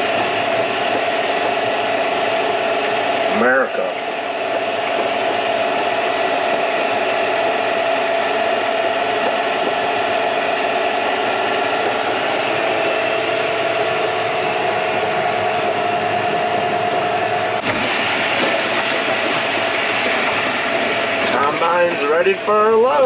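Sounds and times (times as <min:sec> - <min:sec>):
constant whine: 0:00.0 - 0:23.0
tractor engine running: 0:00.0 - 0:23.0.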